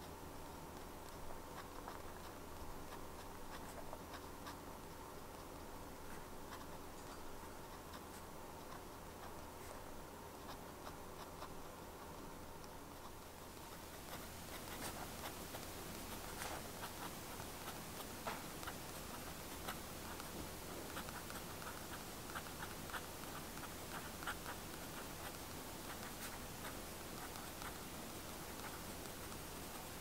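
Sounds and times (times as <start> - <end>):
pen nib scratching paper: 0.0 - 30.0.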